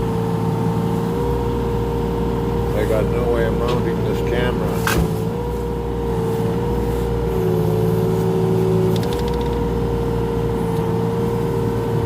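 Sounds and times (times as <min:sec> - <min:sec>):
excavator engine droning: 0:00.0 - 0:12.0.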